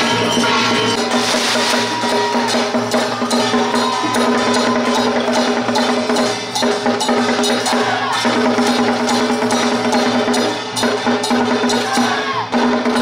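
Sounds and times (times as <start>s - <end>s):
percussion band drumming: 0.0s - 13.0s.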